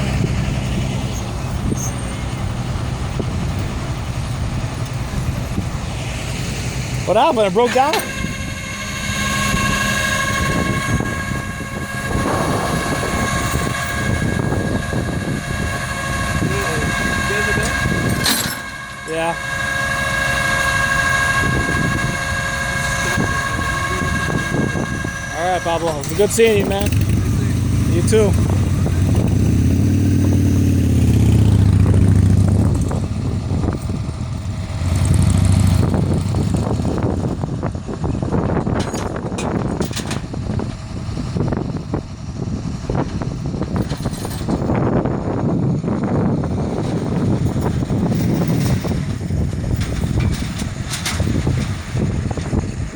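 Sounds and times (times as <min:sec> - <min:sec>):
hydraulic whine: 0:00.0 - 0:52.9
tow truck engine rumble: 0:00.0 - 0:52.9.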